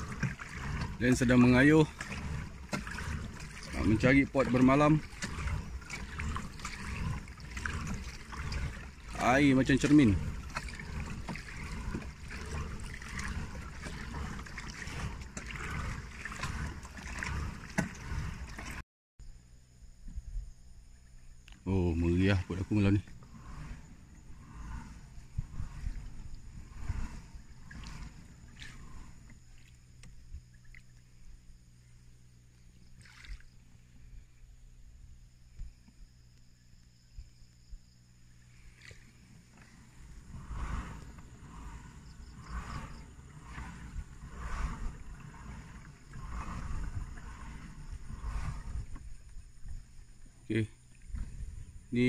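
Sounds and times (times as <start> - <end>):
paddle splashing in water: 0.0 - 18.8, 21.7 - 34.1, 37.0 - 52.0
wind on microphone: 0.0 - 18.8, 21.7 - 30.7, 37.0 - 52.0.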